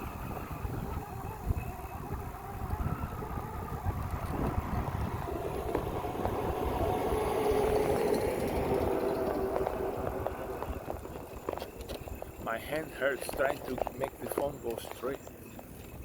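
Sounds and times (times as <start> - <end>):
electric bike motor hum: 0.0 - 14.3
wind on microphone: 0.0 - 14.4
road rumble: 0.0 - 16.0.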